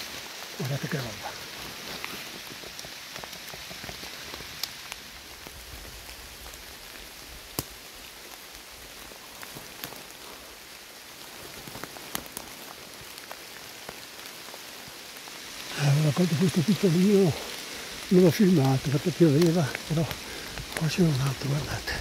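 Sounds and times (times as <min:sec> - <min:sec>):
rain on leaf litter: 0:00.0 - 0:22.0.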